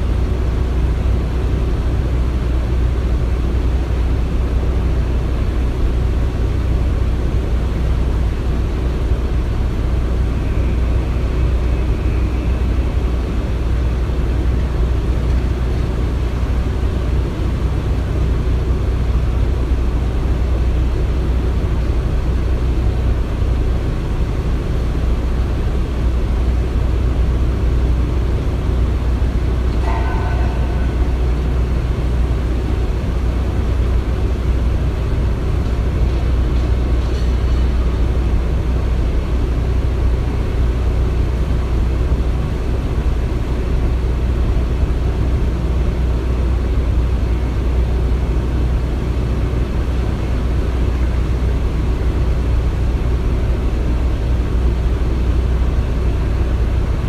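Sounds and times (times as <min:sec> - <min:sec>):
heavy machinery rumble: 0:00.0 - 0:57.0.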